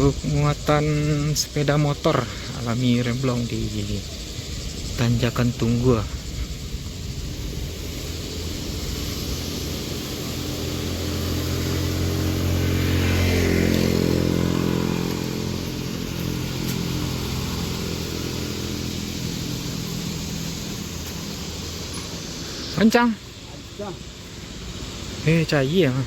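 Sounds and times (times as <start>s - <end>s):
vehicle engine passing by: 2.1s - 26.0s.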